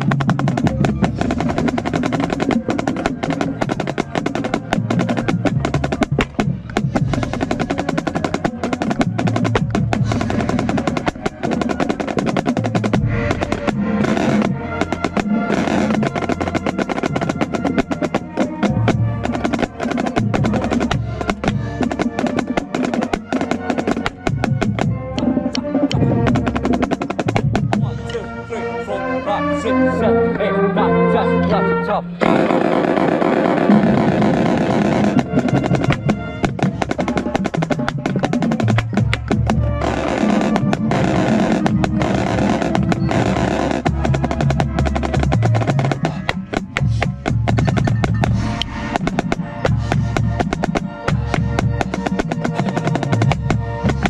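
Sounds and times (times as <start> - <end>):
snare drum rolls: 0.0 - 25.0, 25.6 - 27.9, 32.2 - 54.0
marching band playing: 0.0 - 54.0.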